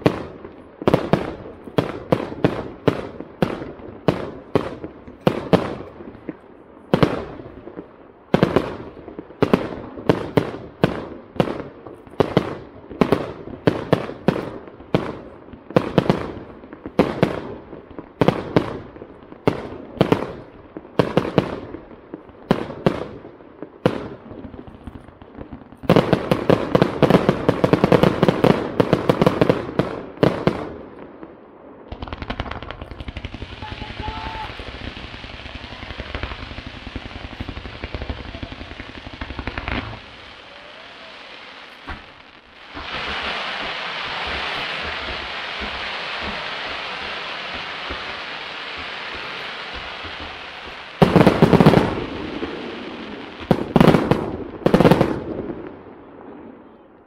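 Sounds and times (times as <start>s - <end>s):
aerial fireworks bursting: 0.0s - 56.6s.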